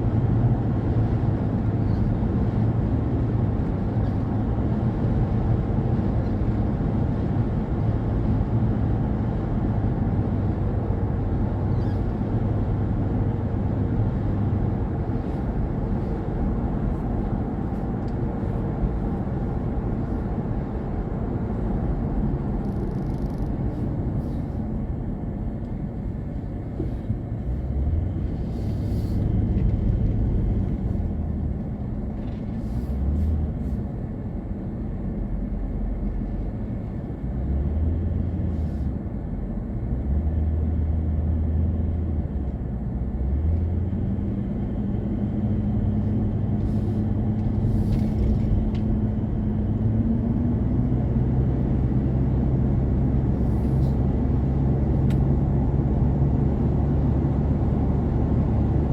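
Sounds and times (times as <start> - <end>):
road engine and wind rumble: 0.0 - 58.9.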